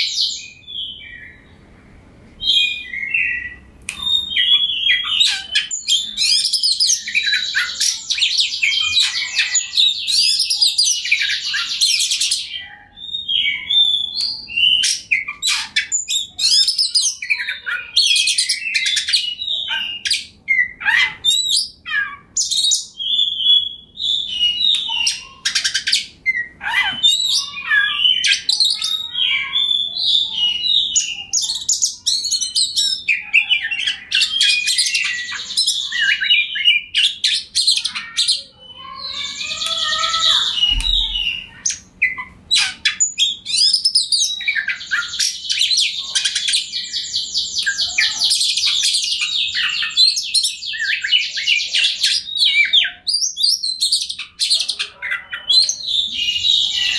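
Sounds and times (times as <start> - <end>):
magpie-robin singing: 0.0 - 1.6, 2.4 - 56.9.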